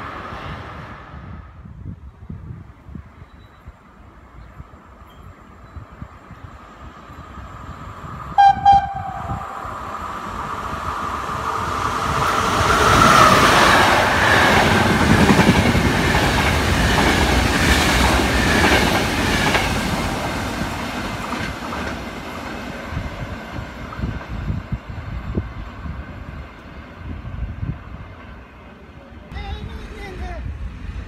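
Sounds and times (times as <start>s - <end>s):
passenger train passing at speed: 0.0s - 31.0s.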